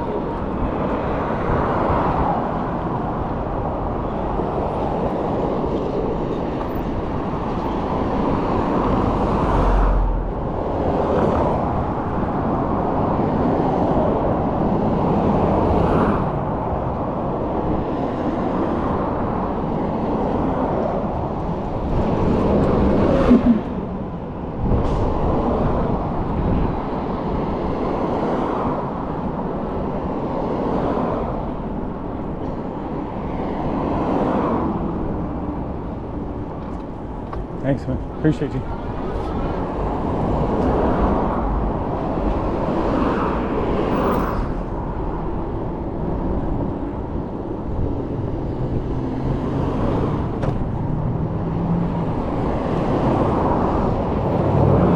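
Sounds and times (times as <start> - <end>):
cars passing by: 0.0 - 54.9
steady traffic rush: 0.0 - 54.9.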